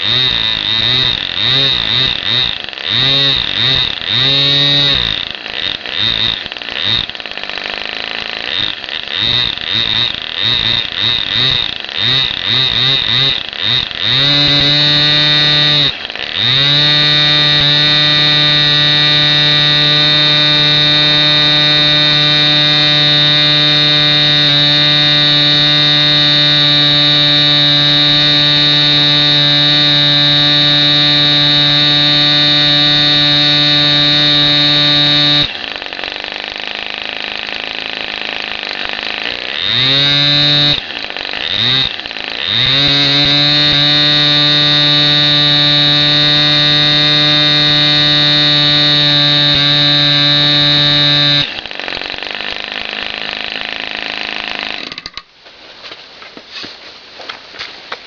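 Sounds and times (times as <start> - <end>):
small petrol engine buzzing: 0.0 - 55.3.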